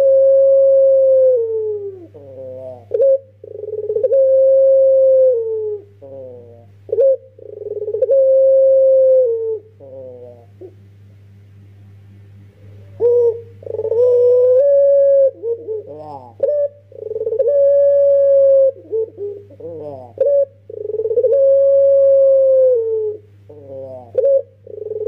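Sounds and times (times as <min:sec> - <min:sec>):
dove cooing: 0:00.0 - 0:10.8, 0:12.6 - 0:25.0.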